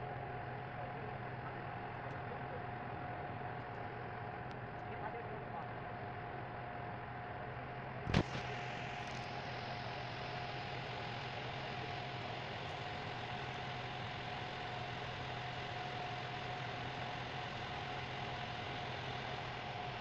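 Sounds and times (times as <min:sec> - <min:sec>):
ferry engine humming: 0:00.0 - 0:20.0.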